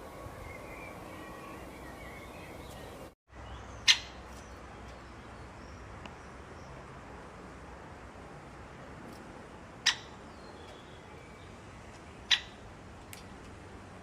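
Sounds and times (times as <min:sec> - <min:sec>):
background noise: 0:00.0 - 0:14.0.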